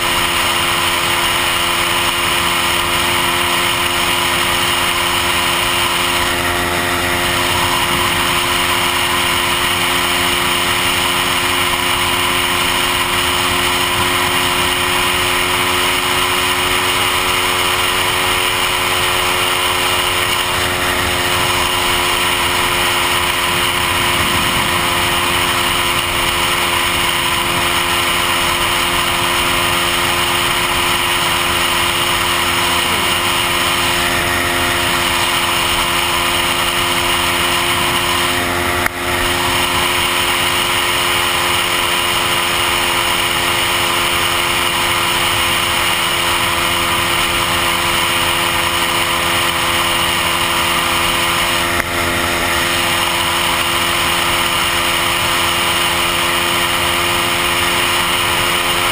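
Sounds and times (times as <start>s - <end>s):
scooter engine cruising: 0.0s - 58.9s
wind and road noise: 0.0s - 58.9s.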